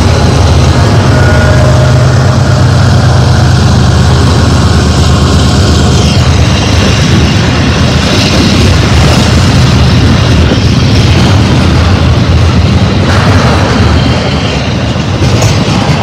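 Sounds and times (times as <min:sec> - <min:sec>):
diesel locomotive engines droning: 0:00.0 - 0:16.0
train rumbling and rattling: 0:00.0 - 0:16.0.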